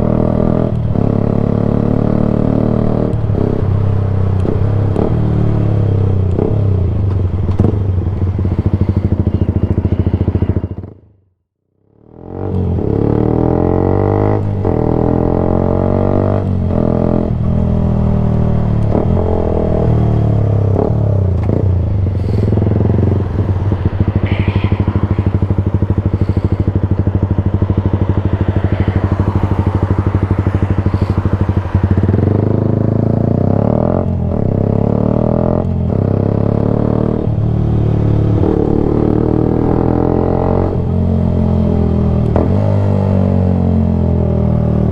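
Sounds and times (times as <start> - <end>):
motorcycle engine revving: 0.0 - 11.2, 11.9 - 44.9.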